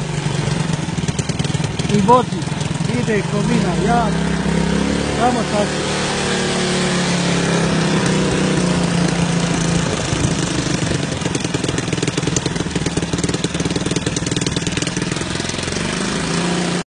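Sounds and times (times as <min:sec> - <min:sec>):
quad bike engine chugging: 0:00.0 - 0:16.8.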